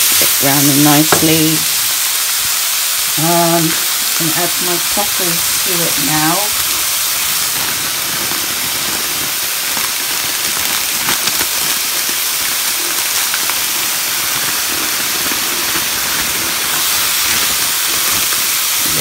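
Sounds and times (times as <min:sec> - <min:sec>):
chicken and onions sizzling in pan: 0:00.0 - 0:19.0.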